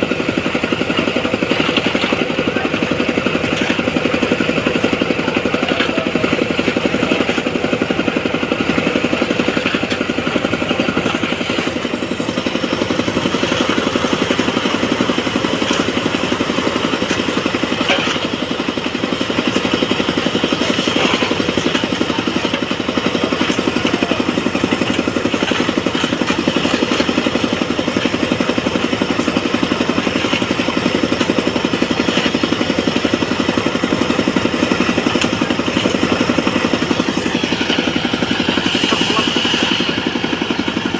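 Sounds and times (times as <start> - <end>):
construction machine engine running: 0.0 - 40.9.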